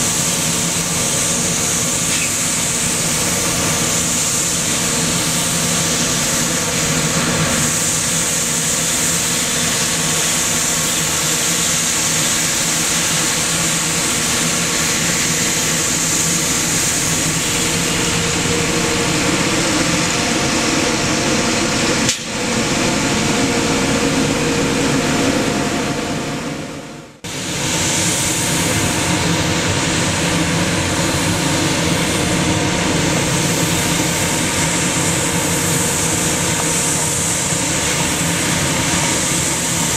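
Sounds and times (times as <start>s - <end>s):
high hissy rushing: 0.0s - 22.0s, 27.3s - 39.9s
diesel engine running: 0.0s - 39.9s.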